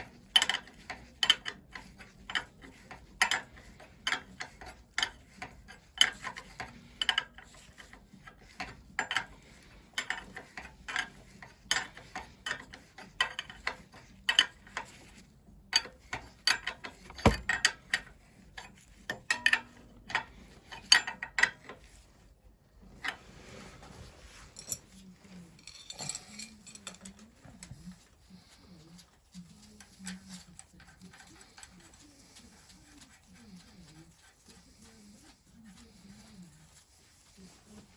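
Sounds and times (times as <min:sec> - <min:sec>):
soft handling noise: 0:00.0 - 0:37.9.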